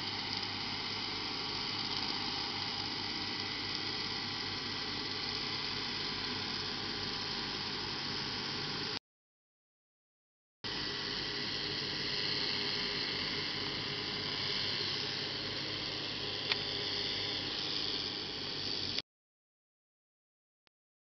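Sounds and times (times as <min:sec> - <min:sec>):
tractor engine drone: 0:00.0 - 0:09.0, 0:10.7 - 0:19.0.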